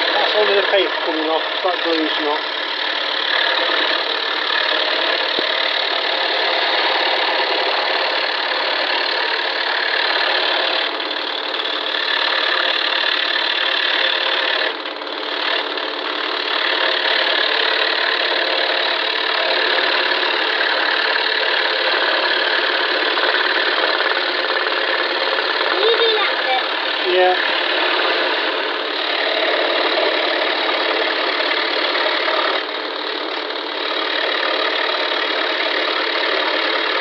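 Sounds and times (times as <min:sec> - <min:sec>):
scroll saw cutting wood: 0:00.0 - 0:37.0.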